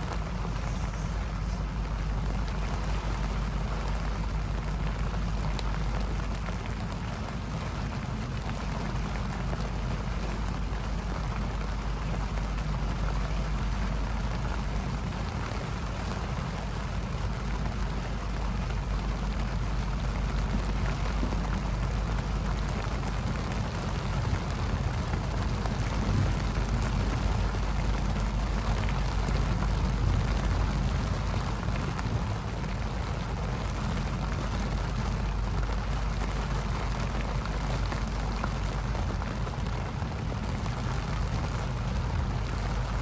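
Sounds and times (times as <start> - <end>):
constant low rumble: 0.0 - 43.0
steady rain hiss: 0.0 - 43.0.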